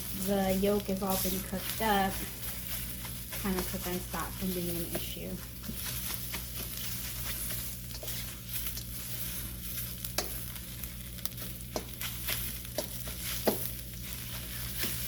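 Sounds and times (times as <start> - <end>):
eggs sizzling in frying pan: 0.0 - 15.0
utensil scraping pan: 0.0 - 15.0.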